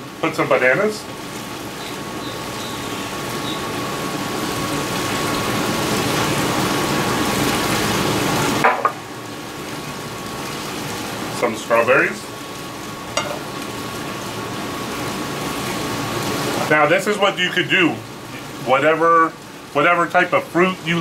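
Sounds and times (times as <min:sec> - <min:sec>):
griddle sizzling hiss: 0:00.0 - 0:21.0.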